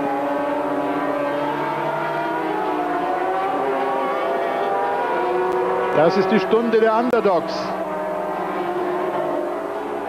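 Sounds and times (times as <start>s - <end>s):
two-stroke racing engines revving: 0.0s - 10.0s.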